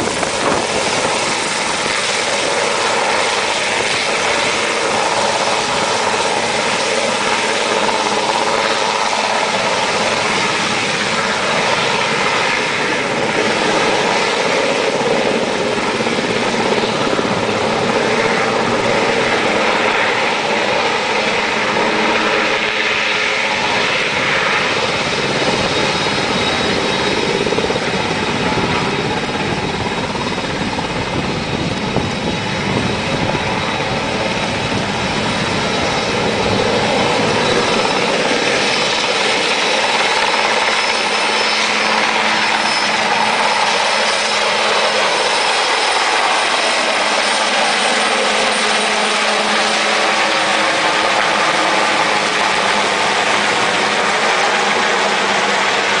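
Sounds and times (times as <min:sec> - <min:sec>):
helicopter rotor chop: 0:00.0 - 0:56.0
turbine whine: 0:00.0 - 0:56.0.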